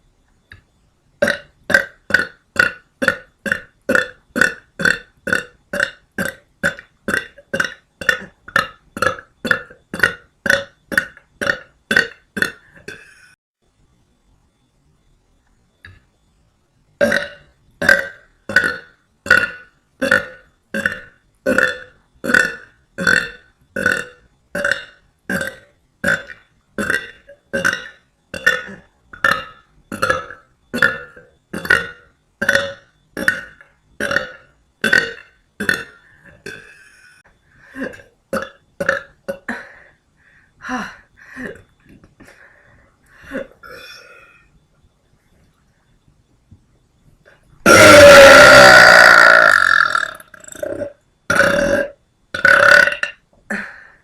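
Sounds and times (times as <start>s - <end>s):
woman burping: 1.2s - 13.4s, 17.0s - 40.0s, 40.6s - 42.4s, 43.2s - 44.4s, 47.6s - 54.0s.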